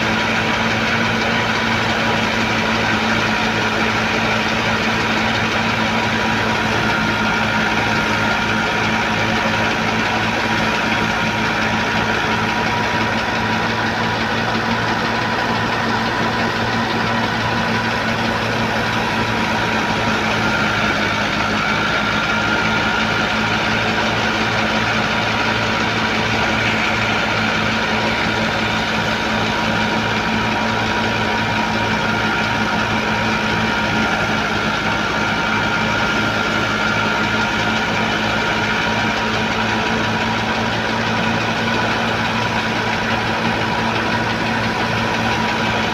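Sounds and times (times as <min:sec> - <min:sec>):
thresher mechanical hum: 0:00.0 - 0:45.9.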